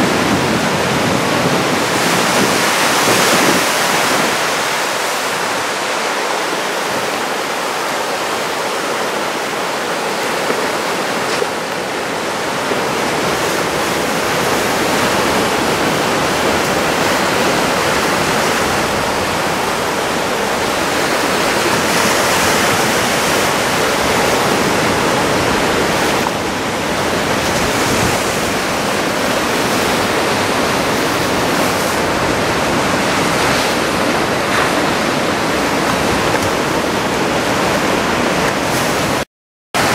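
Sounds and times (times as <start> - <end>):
ocean waves breaking: 0.0 - 39.2.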